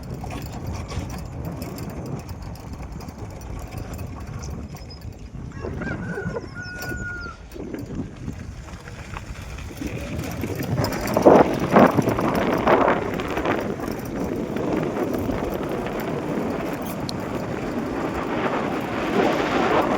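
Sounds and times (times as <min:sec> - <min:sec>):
vehicle and road rumble: 0:00.0 - 0:19.9
wind buffeting microphone: 0:00.0 - 0:19.9.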